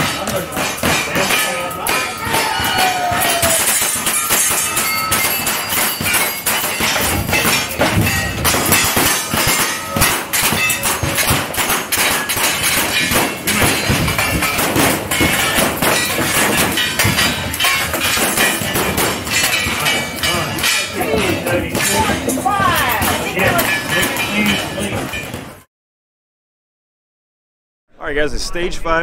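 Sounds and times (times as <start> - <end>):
steel targets ringing: 0.0 - 25.6.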